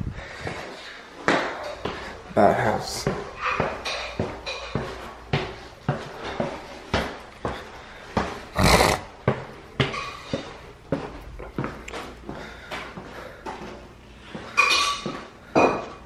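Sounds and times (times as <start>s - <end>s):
footsteps on tiled floor: 0.0s - 16.0s.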